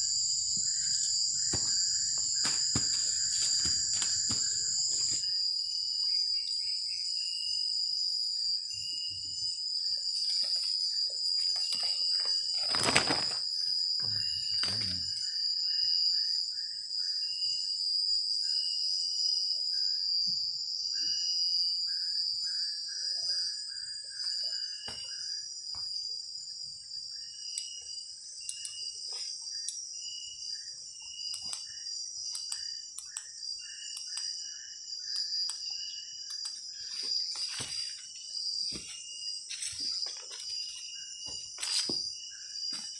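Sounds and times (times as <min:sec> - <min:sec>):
crickets trilling: 0:00.0 - 0:42.9
short insect chirp: 0:00.0 - 0:42.9.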